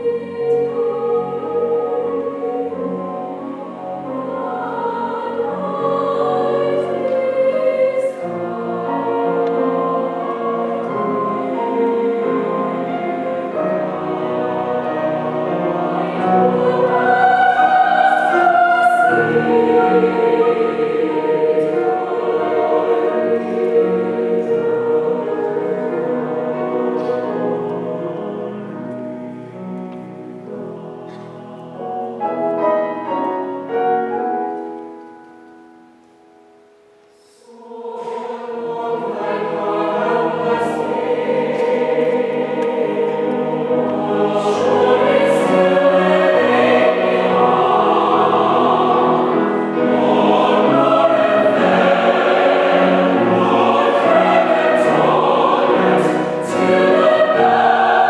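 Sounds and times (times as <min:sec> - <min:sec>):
choir singing sustained chords: 0:00.0 - 0:34.5, 0:36.6 - 0:58.0.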